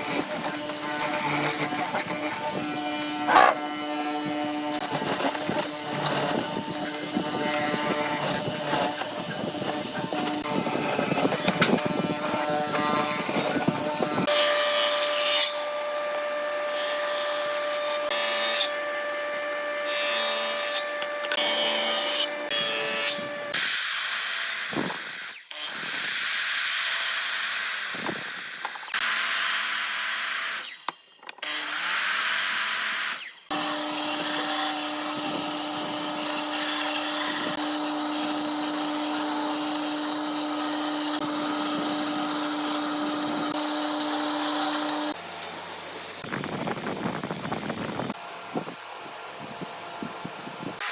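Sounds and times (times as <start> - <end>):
power tool motor whine: 0.0 - 50.9
rough wood cutting noise: 0.0 - 50.9.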